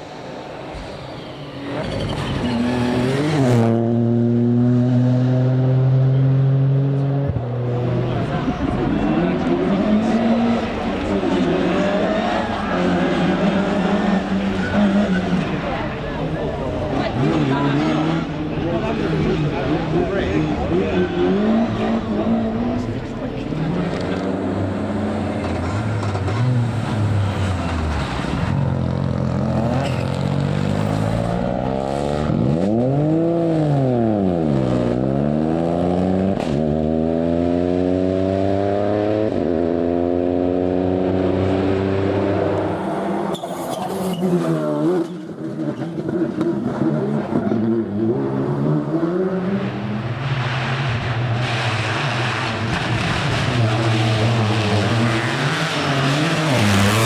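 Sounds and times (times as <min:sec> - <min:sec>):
rally car engine revving: 0:00.1 - 0:57.0.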